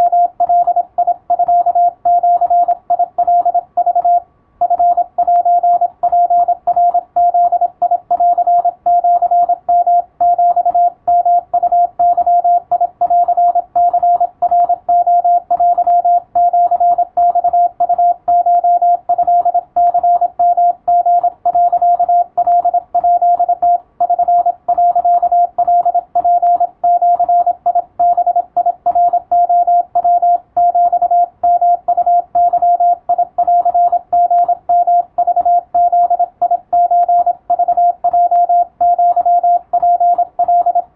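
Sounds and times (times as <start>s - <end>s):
morse code beeps: 0.0s - 40.9s.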